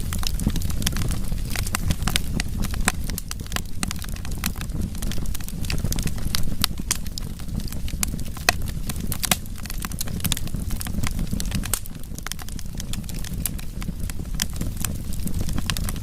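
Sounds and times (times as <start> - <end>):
burning wood crackling and popping: 0.0 - 16.0
low rumble of flame: 0.0 - 16.0.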